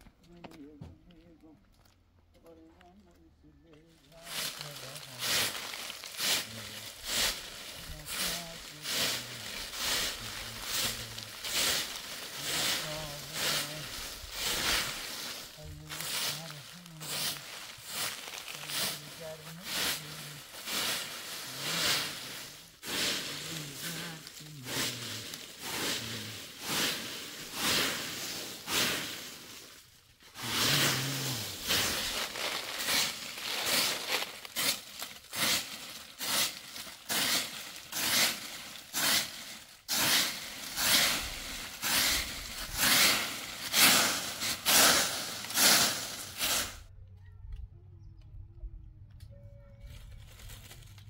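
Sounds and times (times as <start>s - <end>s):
broom sweeping dry leaves: 4.0s - 46.9s, 49.9s - 51.0s.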